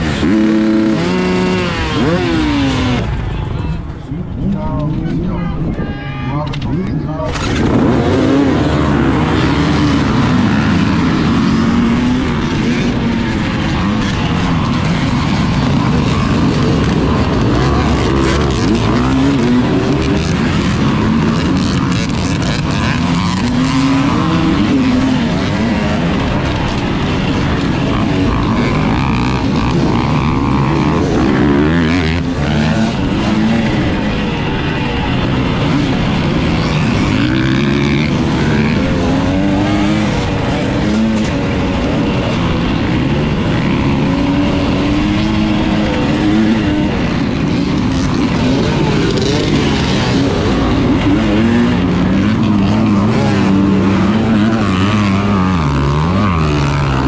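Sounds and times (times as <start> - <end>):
dirt bike engine revving: 0.0 - 3.9, 7.2 - 57.0.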